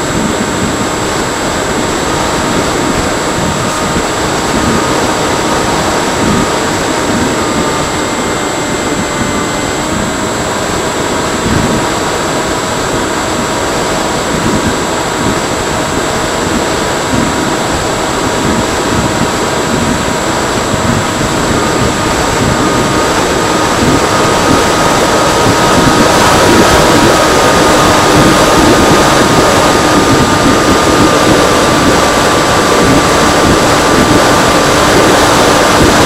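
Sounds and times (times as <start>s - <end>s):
model plane electric motor whining: 0.0s - 36.0s
wind rush: 0.0s - 36.0s.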